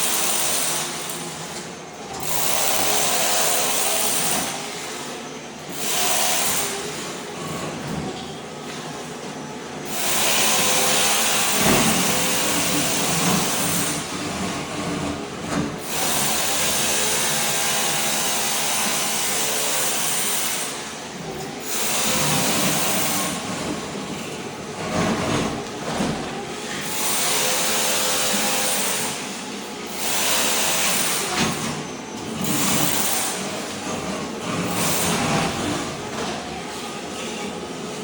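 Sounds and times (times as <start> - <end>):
floor scraper scraping concrete: 0.0 - 8.9, 9.8 - 38.0.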